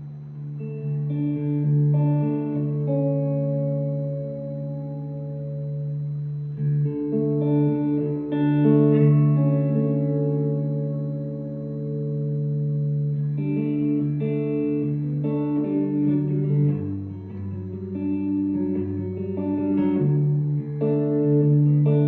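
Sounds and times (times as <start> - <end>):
electric guitar picking notes: 0.0 - 22.0.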